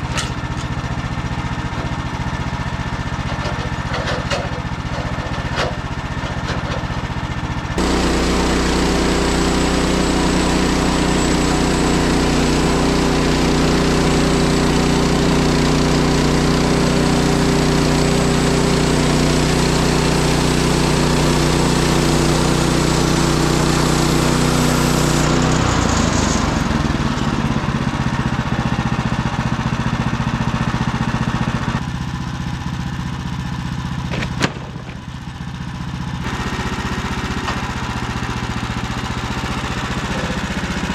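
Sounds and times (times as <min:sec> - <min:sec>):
sawmill gas engine running: 0:00.0 - 0:40.9.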